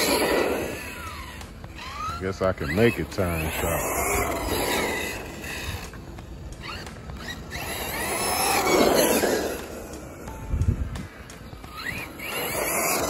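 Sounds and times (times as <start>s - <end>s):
electric motor whining: 0.0s - 13.0s
tyre noise on asphalt: 0.0s - 13.0s.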